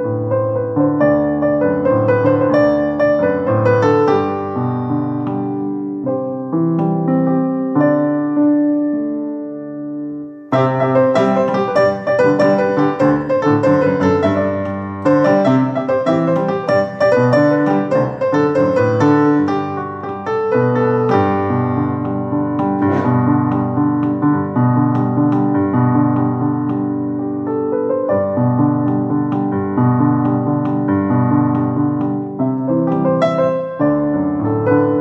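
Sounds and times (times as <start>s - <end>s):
keyboard piano melody: 0.0s - 35.0s.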